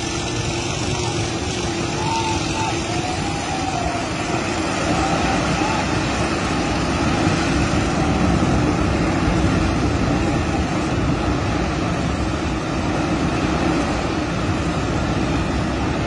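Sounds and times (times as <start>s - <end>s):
landslide of earth and rock: 0.0s - 16.0s.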